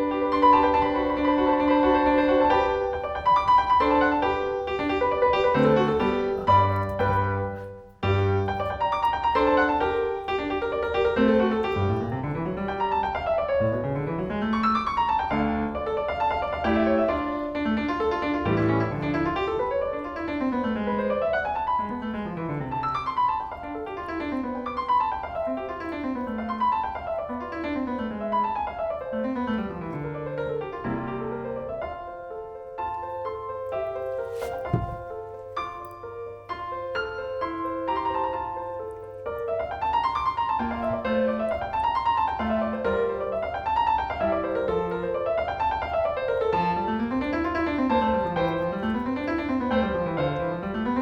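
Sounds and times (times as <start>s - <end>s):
classical piano scales: 0.0s - 51.0s.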